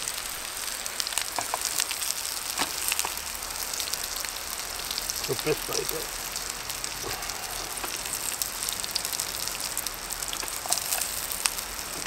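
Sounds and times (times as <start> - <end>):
burgers sizzling in a hot pan: 0.0 - 12.0.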